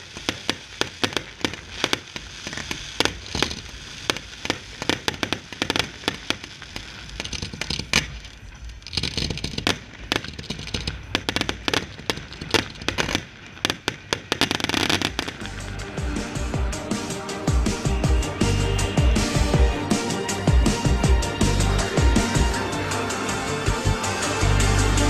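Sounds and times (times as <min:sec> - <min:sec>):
constant noisy haze: 0:00.0 - 0:25.0
fireworks shells bursting: 0:00.0 - 0:25.0.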